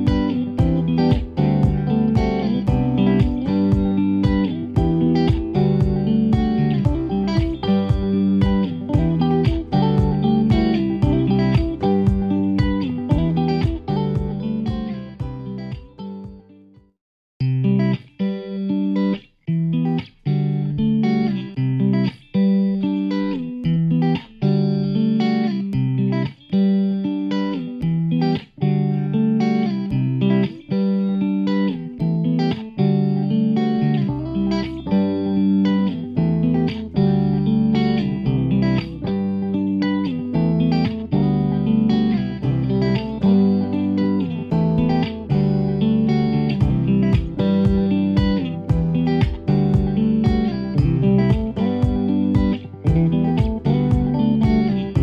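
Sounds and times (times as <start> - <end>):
instrumental music with steady beat: 0.0 - 55.0.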